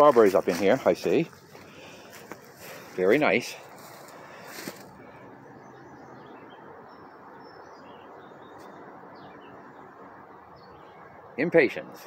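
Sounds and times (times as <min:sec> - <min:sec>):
outdoor background hiss: 0:00.0 - 0:12.0
bird chirps: 0:01.6 - 0:12.0.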